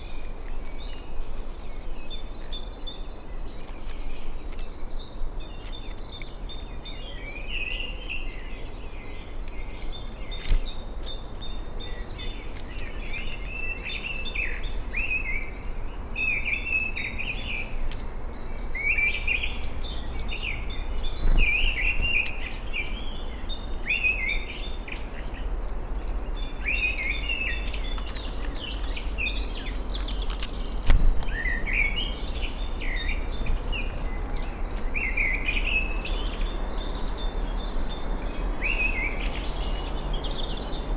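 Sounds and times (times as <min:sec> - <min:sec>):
songbirds singing and calling: 0:00.0 - 0:40.9.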